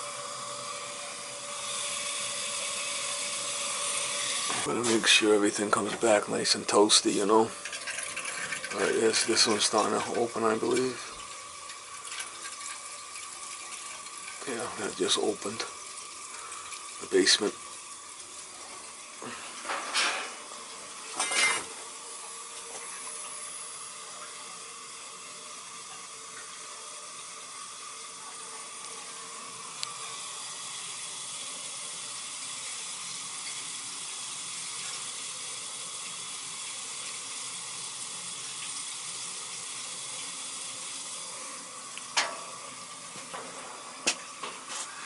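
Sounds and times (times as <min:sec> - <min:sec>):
circulator pump running: 0:00.0 - 0:45.0
water rushing through pipes: 0:00.0 - 0:45.0.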